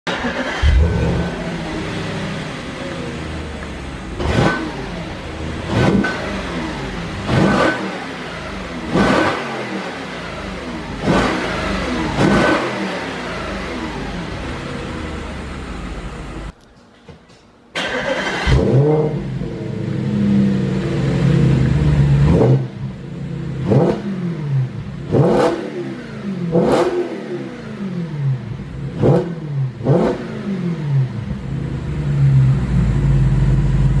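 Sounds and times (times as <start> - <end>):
car engine idling and revving: 0.1 - 16.5, 17.8 - 34.0.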